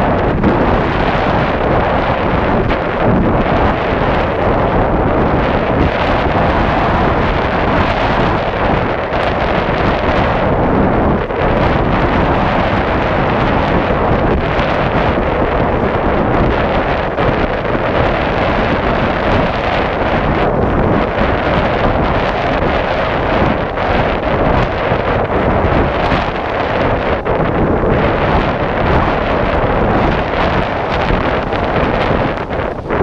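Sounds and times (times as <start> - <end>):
water rushing along hull: 0.0 - 33.0
wind buffeting microphone: 0.0 - 33.0.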